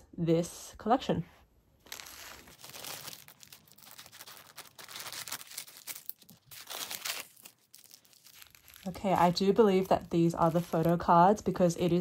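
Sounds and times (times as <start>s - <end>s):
bubble wrap rustling: 1.8s - 12.0s
plastic bag crinkling: 1.8s - 12.0s
scissors cutting plastic bag: 1.9s - 12.0s.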